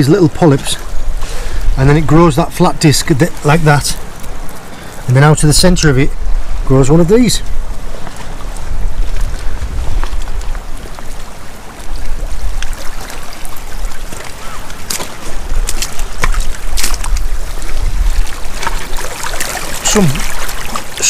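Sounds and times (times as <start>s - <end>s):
sea water trickling among rocks: 0.0s - 21.0s
wind buffeting microphone: 0.0s - 21.0s.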